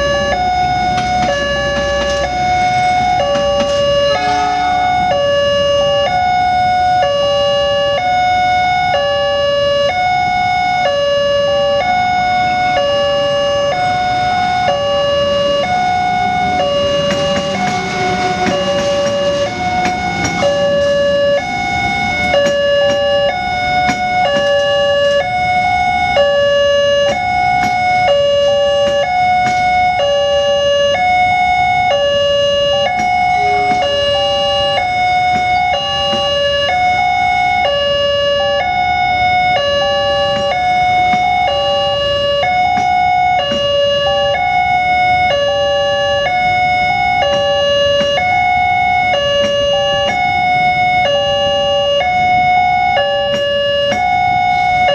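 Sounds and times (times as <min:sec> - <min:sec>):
level crossing warning siren: 0:00.0 - 0:54.9.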